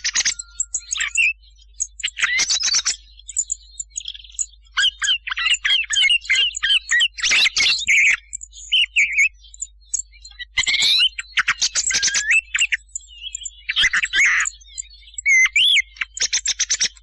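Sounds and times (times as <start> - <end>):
thrushes chirping and singing: 0.0 - 17.0.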